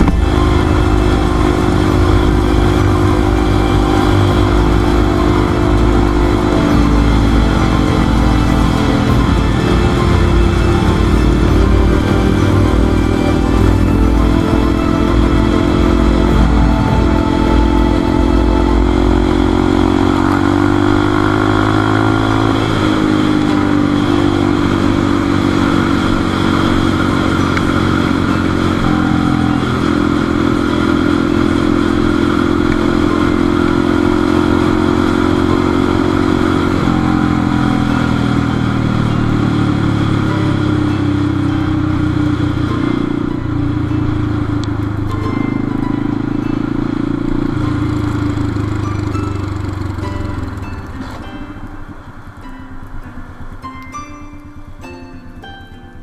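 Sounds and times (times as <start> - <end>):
motorcycle engine running: 0.0 - 52.5.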